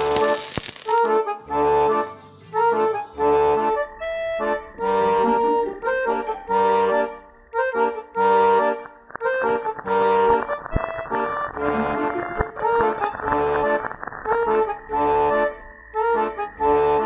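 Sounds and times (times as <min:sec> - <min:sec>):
accordion music: 0:00.0 - 0:17.0.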